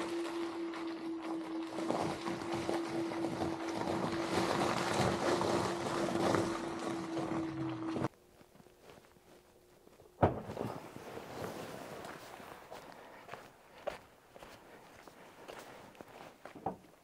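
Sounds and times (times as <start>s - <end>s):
tires crunching over slushy snow: 0.0s - 8.1s, 10.5s - 16.5s.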